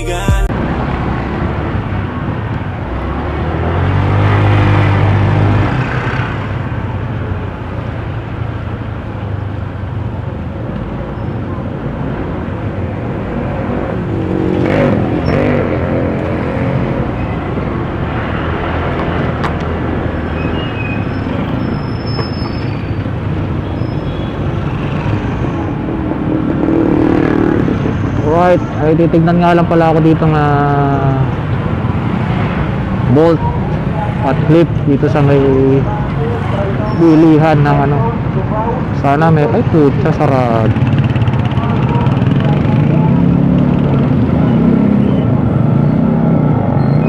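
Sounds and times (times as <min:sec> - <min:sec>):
traffic passing by: 0:00.5 - 0:47.0.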